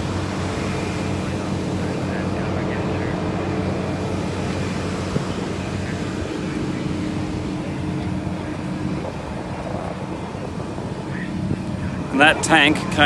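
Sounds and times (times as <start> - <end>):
steady engine drone: 0.0 - 13.0.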